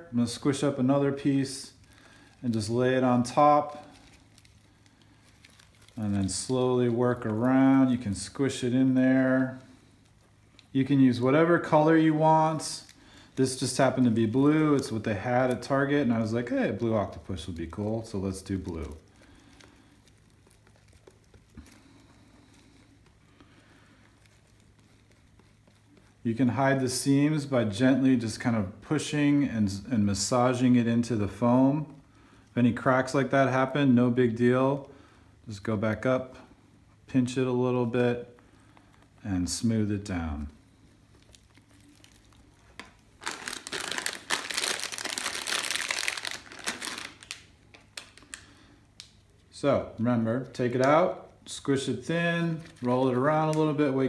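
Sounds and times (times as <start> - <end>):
plastic pouch crinkling: 0.0 - 36.9, 37.8 - 54.0
faint room hum: 0.0 - 54.0
soft handling sounds: 0.1 - 54.0.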